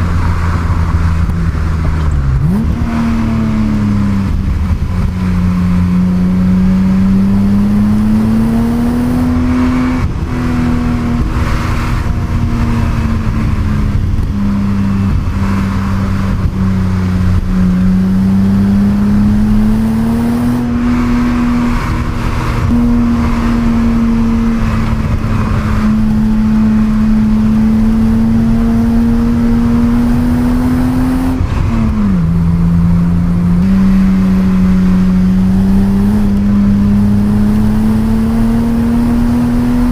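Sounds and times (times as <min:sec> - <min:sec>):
car engine revving under way: 0:00.0 - 0:39.9.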